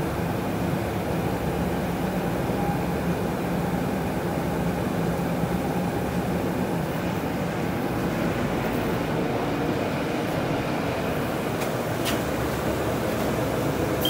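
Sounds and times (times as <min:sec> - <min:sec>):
bus engine drone: 0:00.0 - 0:14.0.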